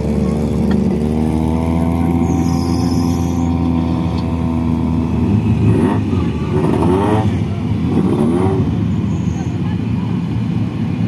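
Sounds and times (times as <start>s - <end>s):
buggy engines idling and revving: 0.0s - 11.0s.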